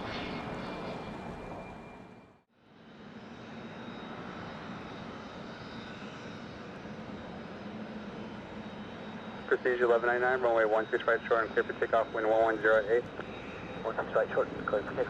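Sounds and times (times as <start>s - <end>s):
jet engine noise with whine: 0.0s - 15.0s.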